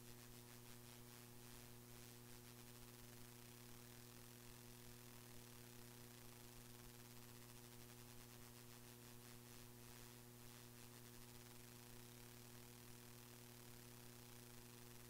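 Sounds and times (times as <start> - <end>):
faint electrical hum and hiss: 0.0 - 15.0.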